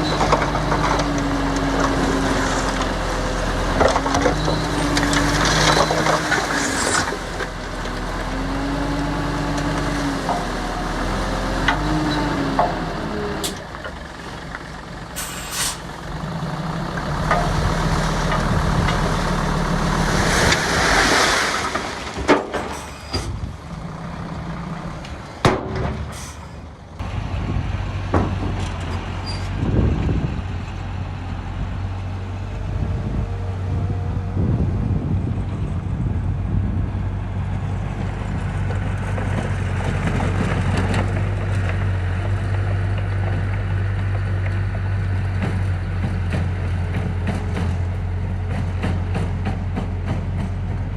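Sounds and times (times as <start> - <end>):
diesel engine revving: 0.0 - 50.9.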